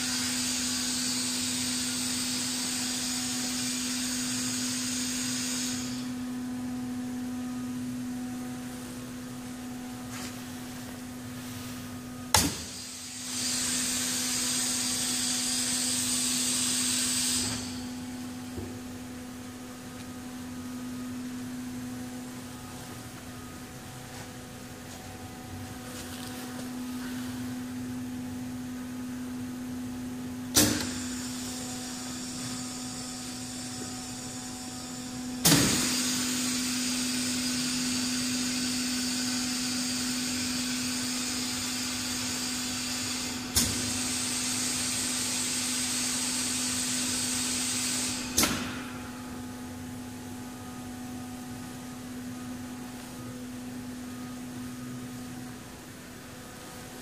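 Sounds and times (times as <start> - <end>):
bottle washer humming: 0.0 - 50.0.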